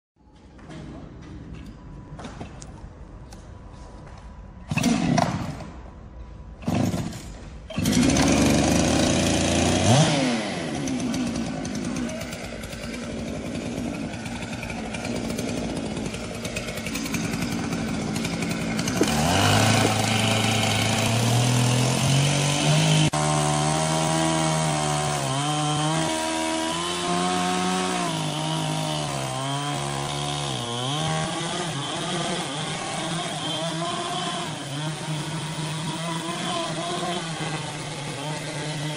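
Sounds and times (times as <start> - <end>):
chainsaw starting and revving: 4.7 - 5.7, 6.6 - 38.9
chainsaw cutting log: 4.7 - 5.8, 6.6 - 38.9.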